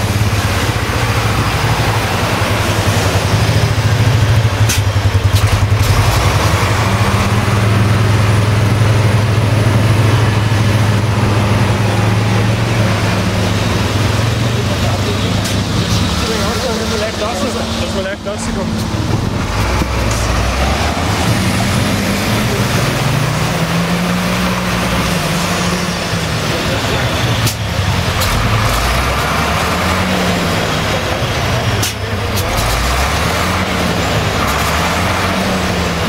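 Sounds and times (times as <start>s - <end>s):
truck engine labouring: 0.0s - 36.0s.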